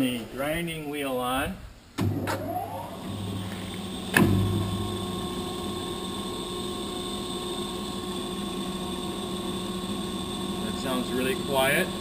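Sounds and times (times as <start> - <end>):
surface grinder humming: 2.2 - 12.0.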